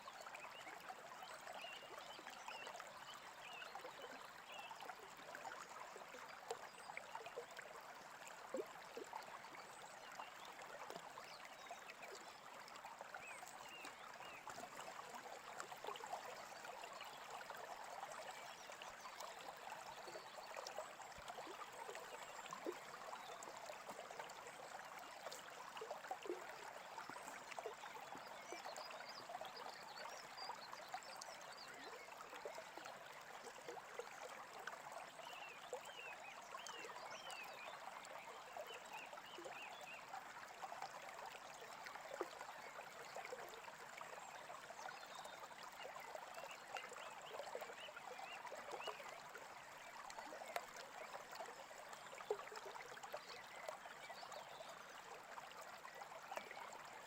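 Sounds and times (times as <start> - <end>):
faint stream babbling over stones: 0.0 - 57.0.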